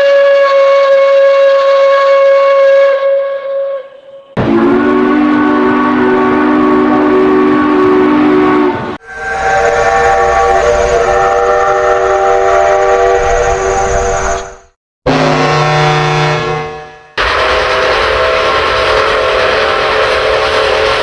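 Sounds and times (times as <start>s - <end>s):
train whistle chords: 0.0s - 21.0s.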